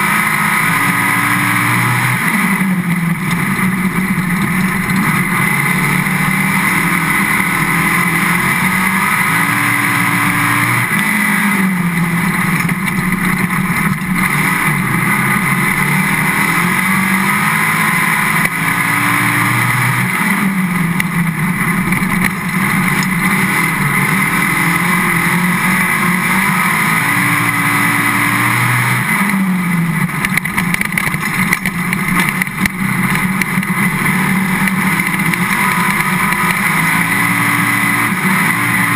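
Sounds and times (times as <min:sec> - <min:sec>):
race car engine running hard: 0:00.0 - 0:38.9
tire and wind noise: 0:00.0 - 0:38.9.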